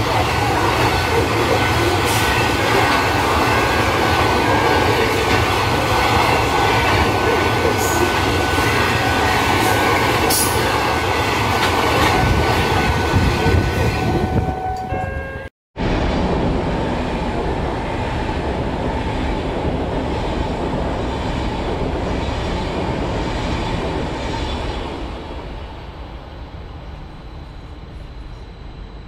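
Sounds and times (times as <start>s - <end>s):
train wheels rumbling on rail: 0.0s - 15.2s, 15.8s - 29.0s.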